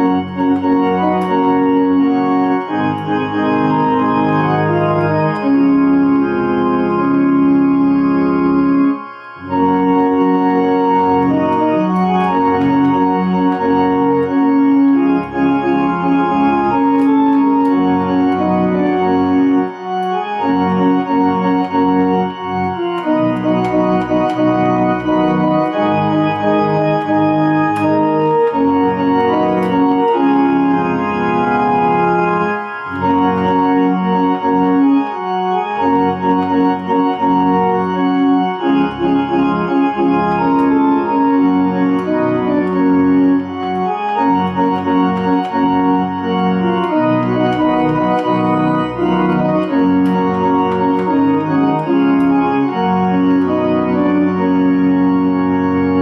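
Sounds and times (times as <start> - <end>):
organ playing hymn chords: 0.0 - 56.0.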